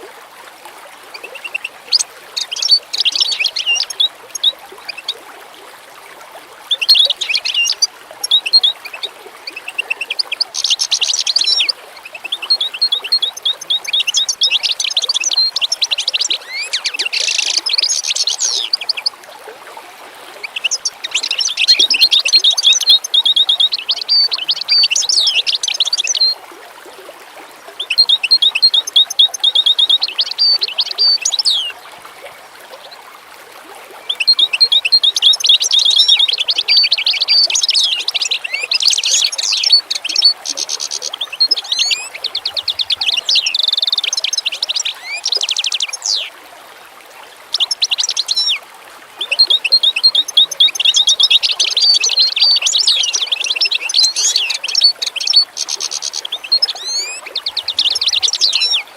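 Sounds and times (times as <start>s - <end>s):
songbirds chirping and trilling: 1.2s - 5.2s, 6.8s - 19.1s, 20.4s - 26.4s, 27.8s - 31.8s, 34.0s - 46.3s, 49.2s - 58.9s.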